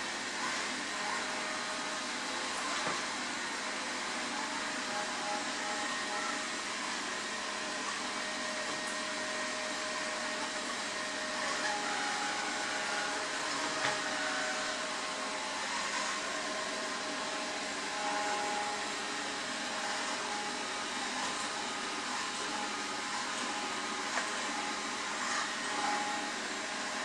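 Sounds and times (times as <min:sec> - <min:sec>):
robot vacuum cleaner whirring: 0:00.0 - 0:27.0.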